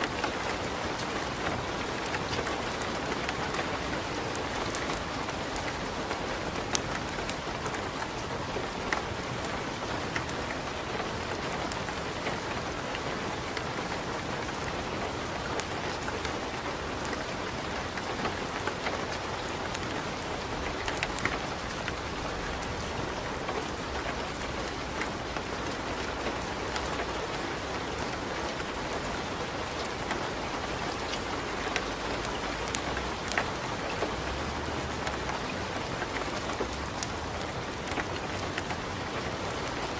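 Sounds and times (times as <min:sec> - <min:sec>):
fireplace fire crackling: 0:00.0 - 0:39.9
steady rain: 0:00.0 - 0:39.9.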